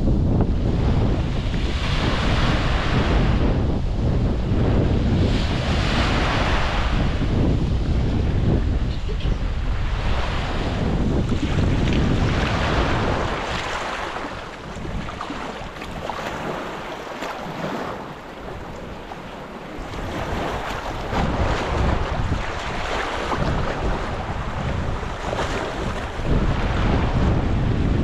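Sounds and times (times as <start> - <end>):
waves washing onto sand: 0.0 - 28.0
wind buffeting microphone: 0.0 - 28.0.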